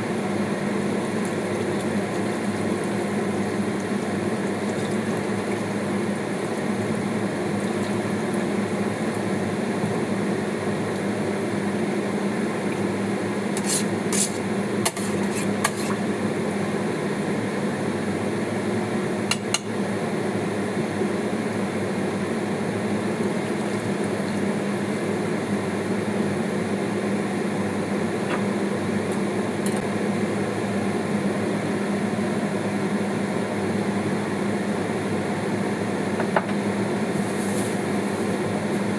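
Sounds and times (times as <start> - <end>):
kitchen hum: 0.0 - 31.4, 34.3 - 38.9.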